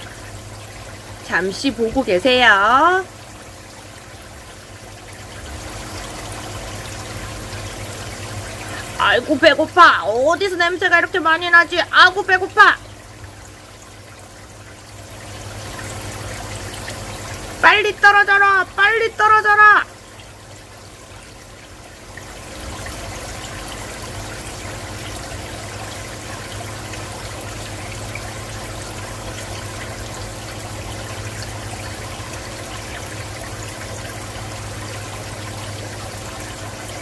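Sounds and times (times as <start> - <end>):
aquarium water trickling: 0.0 - 37.0
low steady hum: 0.0 - 37.0.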